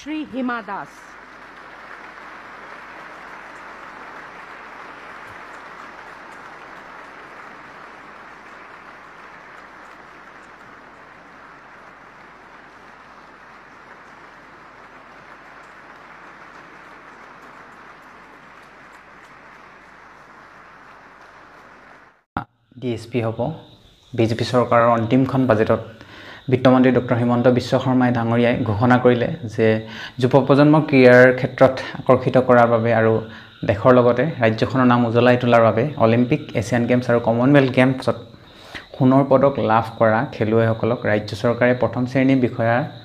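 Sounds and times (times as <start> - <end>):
audience applauding: 0.0 - 22.3, 24.2 - 28.8, 29.8 - 43.0.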